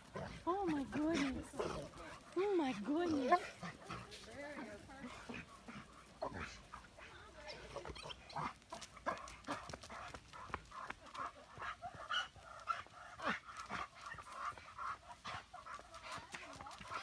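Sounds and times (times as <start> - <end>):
dog panting hard: 0.0 - 17.0.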